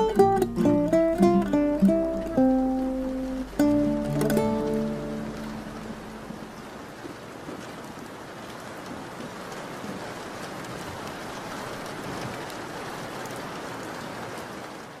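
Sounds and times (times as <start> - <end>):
steady rain pattering: 0.0 - 15.0.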